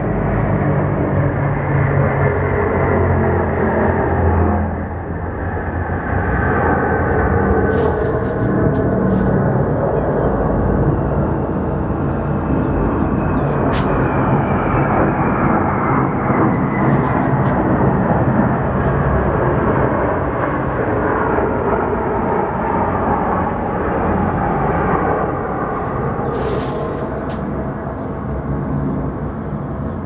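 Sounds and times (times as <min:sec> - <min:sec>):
aircraft passing overhead: 0:00.0 - 0:30.0.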